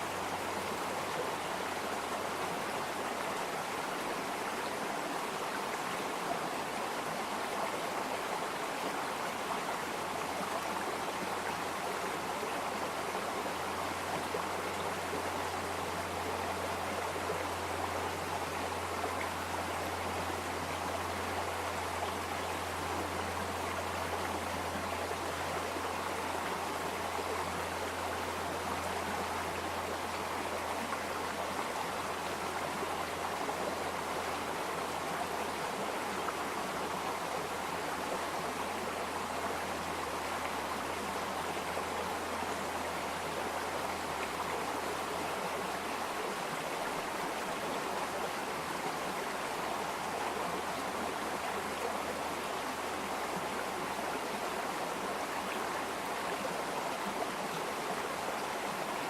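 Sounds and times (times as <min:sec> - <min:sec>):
stream water babbling: 0:00.0 - 0:59.0.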